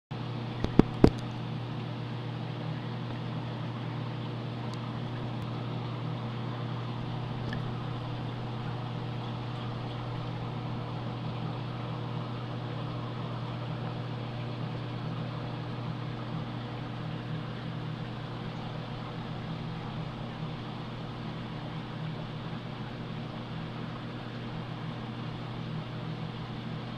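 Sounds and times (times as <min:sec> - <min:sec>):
aquarium pumps humming: 0:00.1 - 0:26.9.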